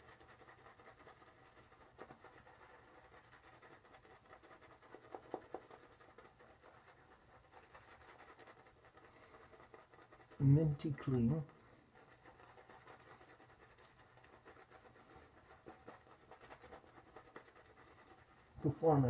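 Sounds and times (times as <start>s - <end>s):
shaving brush swishing on stubble: 0.0s - 19.0s.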